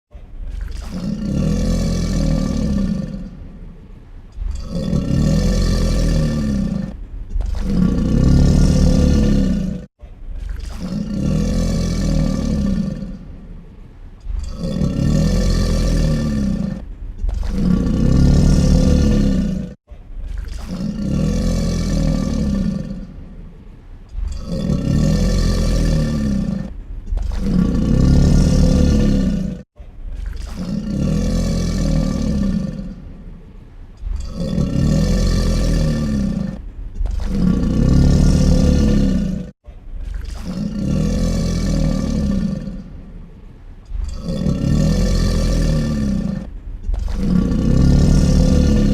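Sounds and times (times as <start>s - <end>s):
alligator growling: 0.1s - 48.9s.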